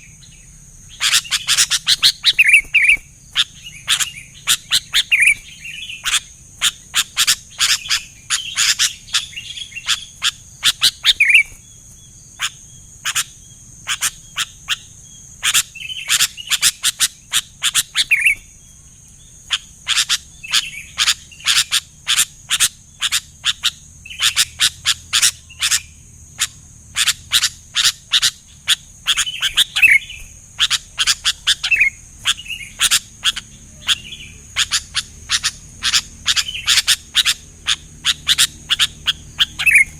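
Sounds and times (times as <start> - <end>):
birds chirping and warbling: 0.0 - 39.9
high-pitched hiss: 0.0 - 39.9.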